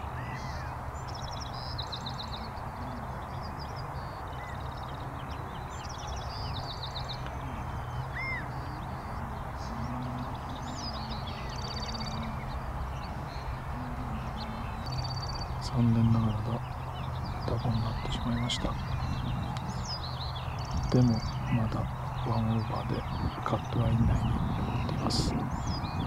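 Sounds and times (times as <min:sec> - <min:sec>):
low bird calls: 0:00.0 - 0:26.0
small birds chirping and trilling: 0:00.0 - 0:26.0
wind: 0:00.0 - 0:26.0.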